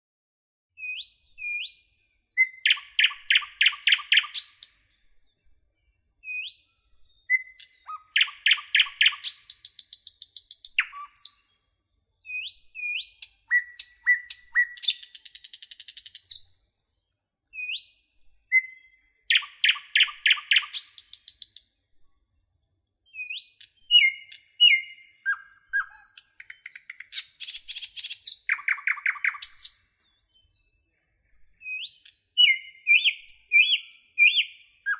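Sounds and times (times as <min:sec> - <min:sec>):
rising whistled bird notes: 0:00.8 - 0:09.8, 0:10.8 - 0:16.5, 0:17.5 - 0:21.3, 0:22.6 - 0:34.9
songbird chirping song: 0:00.8 - 0:34.9.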